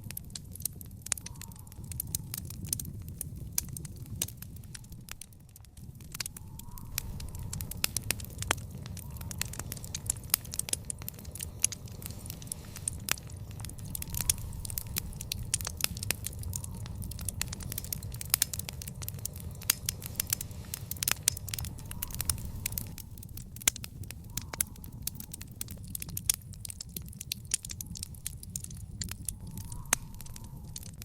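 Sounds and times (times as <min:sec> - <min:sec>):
fire crackling and popping: 0:00.0 - 0:31.0
low rumble: 0:00.0 - 0:31.0.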